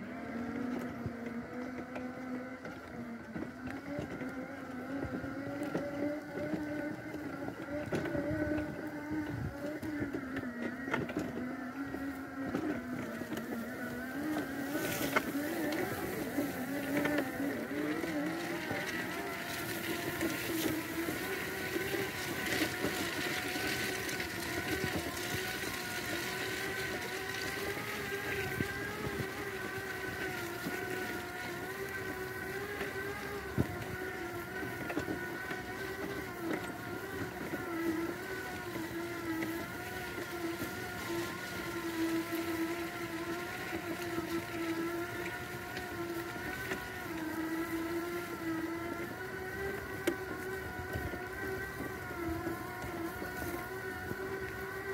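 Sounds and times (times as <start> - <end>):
electric wheelchair motors whining: 0.0 - 54.9.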